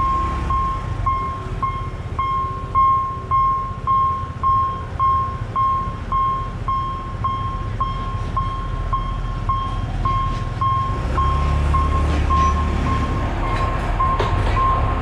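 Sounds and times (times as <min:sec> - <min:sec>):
level-crossing warning bell dings: 0:00.0 - 0:14.9.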